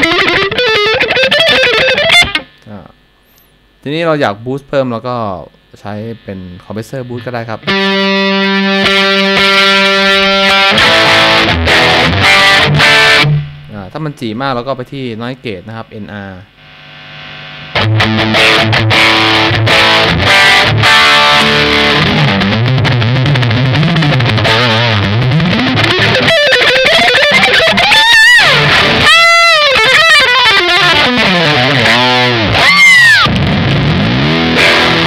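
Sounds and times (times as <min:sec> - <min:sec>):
distorted electric guitar: 0:00.0 - 0:03.6, 0:05.5 - 0:14.7, 0:15.7 - 0:35.0.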